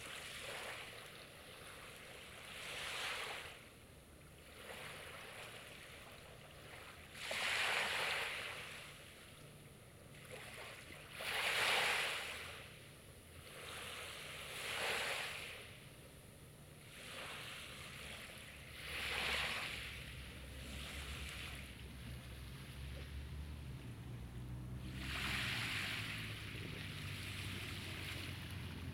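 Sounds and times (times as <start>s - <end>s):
sea waves breaking on beach: 0.0s - 3.7s, 4.4s - 9.1s, 10.1s - 12.8s, 13.4s - 15.8s, 16.8s - 28.9s.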